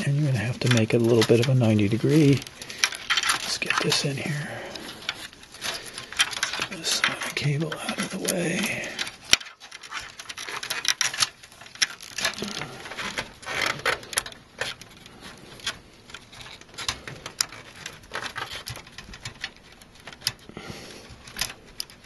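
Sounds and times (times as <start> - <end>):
rustling scrapes: 0.0 - 22.0.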